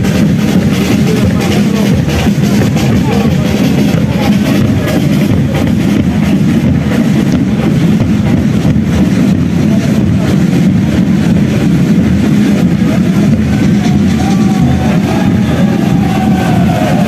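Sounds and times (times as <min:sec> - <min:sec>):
low rumble of engines: 0:00.0 - 0:17.0.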